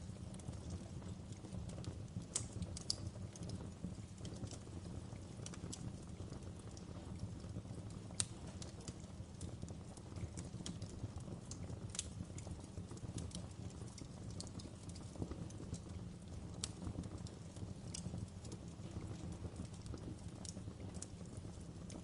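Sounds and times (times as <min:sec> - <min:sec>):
log fire crackling: 0:00.0 - 0:22.0.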